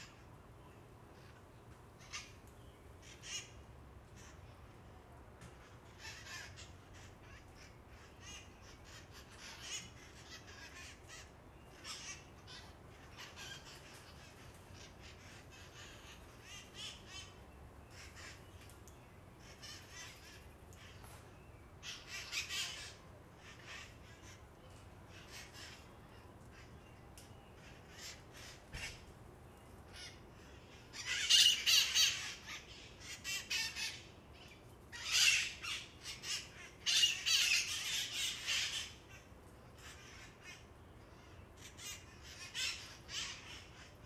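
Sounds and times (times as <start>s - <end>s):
parakeets calling: 1.1s - 4.9s, 5.5s - 29.2s, 29.8s - 44.0s.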